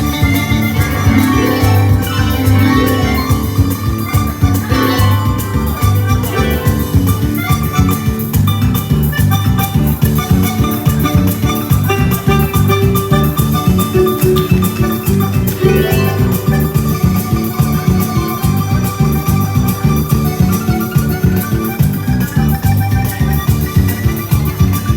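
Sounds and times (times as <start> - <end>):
bass and drum beat: 0.0 - 24.9
guitar: 0.0 - 24.9
plucked-string melody: 0.0 - 24.9.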